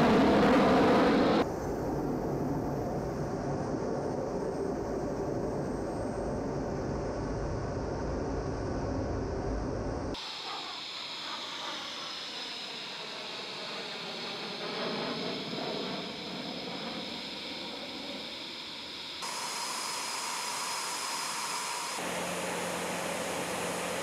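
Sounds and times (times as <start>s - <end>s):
jet engine roar flying past: 0.0s - 4.2s, 8.9s - 24.0s
jet engine whine: 0.0s - 24.0s.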